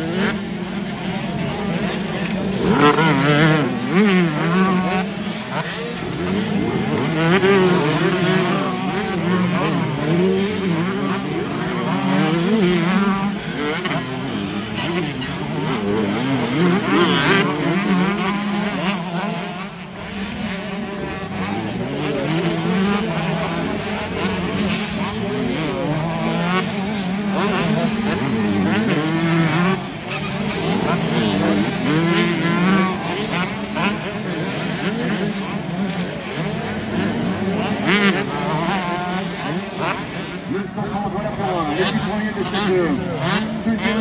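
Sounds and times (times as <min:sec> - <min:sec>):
motocross bikes revving: 0:00.0 - 0:44.0.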